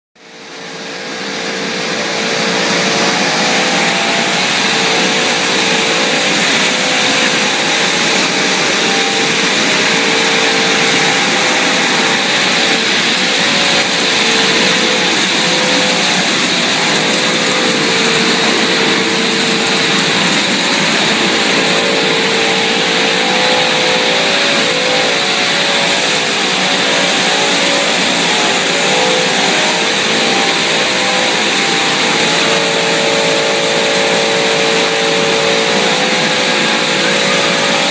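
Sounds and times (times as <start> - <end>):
faint wavering hum: 0.2 - 37.9
machinery running steadily: 0.2 - 37.9.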